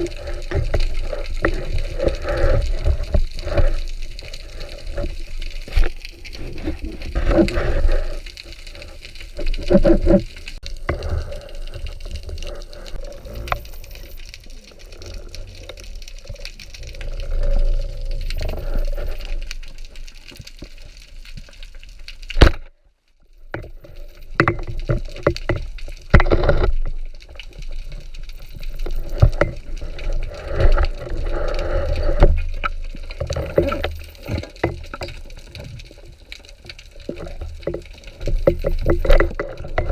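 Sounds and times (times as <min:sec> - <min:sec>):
water rushing and bubbling: 0:00.0 - 0:39.9.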